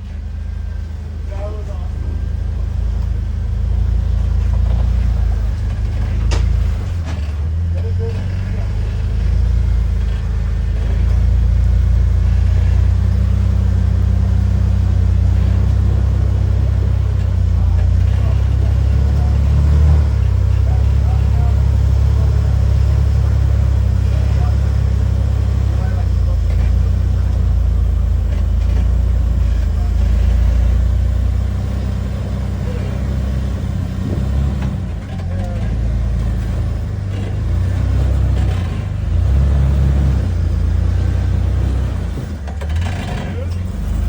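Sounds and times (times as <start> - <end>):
car engine running at low revs: 0.0 - 44.0.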